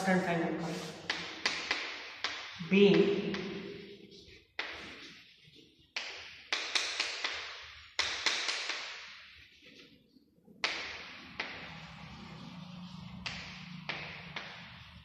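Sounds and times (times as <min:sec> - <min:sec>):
chalk tapping and scratching: 0:00.6 - 0:15.0.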